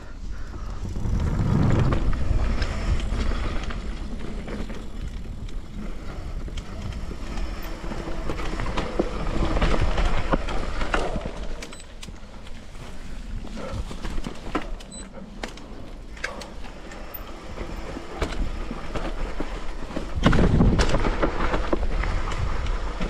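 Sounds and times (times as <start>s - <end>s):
wind rumbling on microphone: 0.0s - 15.0s, 15.8s - 23.0s
bike tyre noise on dirt: 0.0s - 23.0s
bike clattering over bumps: 0.3s - 23.0s.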